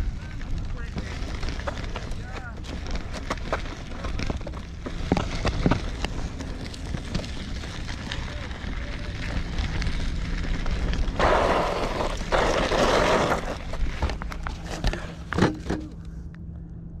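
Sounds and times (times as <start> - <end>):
bike rolling over dirt: 0.0 - 16.0.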